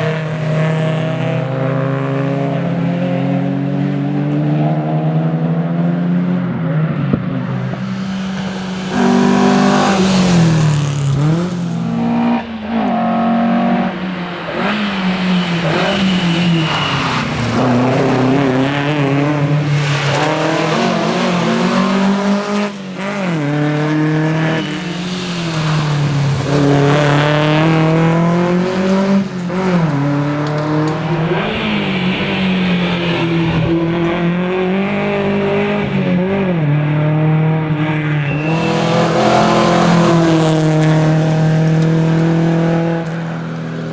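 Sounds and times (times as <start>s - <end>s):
car engine revving hard: 0.0s - 43.9s.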